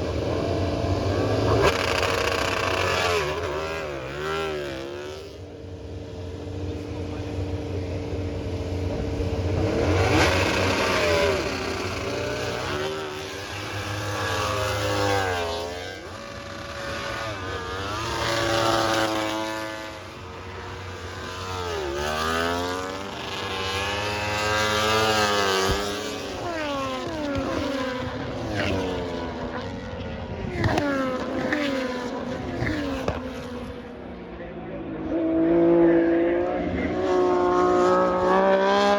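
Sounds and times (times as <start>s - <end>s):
racing motorcycles passing: 0.0s - 38.9s.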